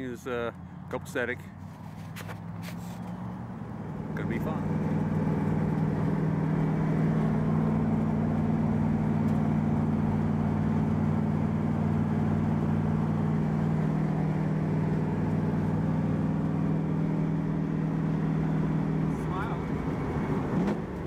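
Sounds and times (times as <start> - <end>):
car engine running steadily: 0.0 - 21.0
road noise: 0.0 - 21.0.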